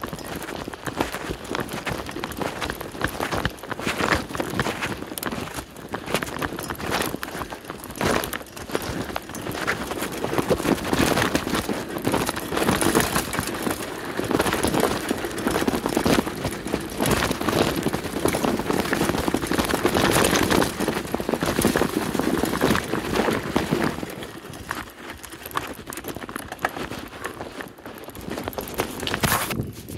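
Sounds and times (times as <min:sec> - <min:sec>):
bike rattling over bumps: 0:00.0 - 0:29.9
bike tyres crunching on dirt: 0:00.0 - 0:29.9.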